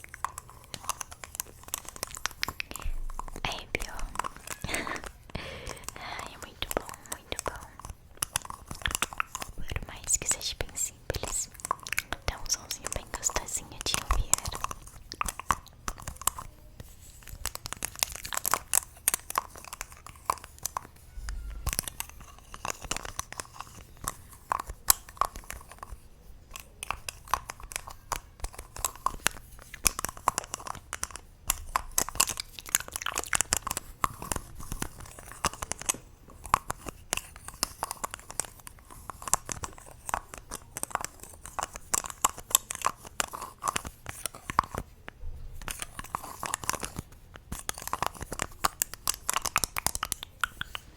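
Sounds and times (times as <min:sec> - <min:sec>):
small crackling clicks and taps: 0:00.0 - 0:50.9.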